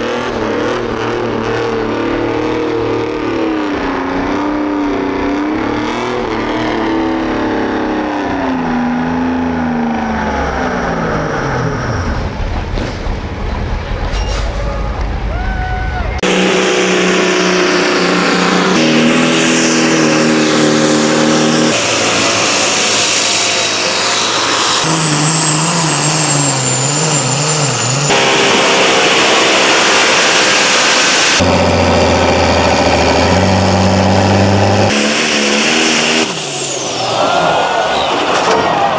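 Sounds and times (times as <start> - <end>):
truck engines at high revs: 0.0 - 38.9.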